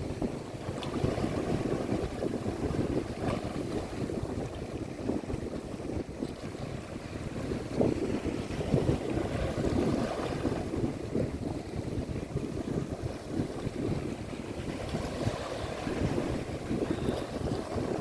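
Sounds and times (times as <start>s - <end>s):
sea water rushing and splashing: 0.0s - 18.0s
wind buffeting microphone: 0.0s - 18.0s.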